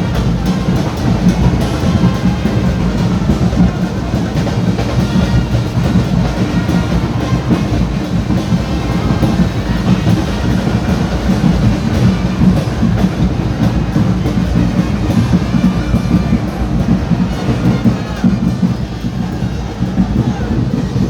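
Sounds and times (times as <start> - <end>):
band drums and percussion beat: 0.0 - 21.0.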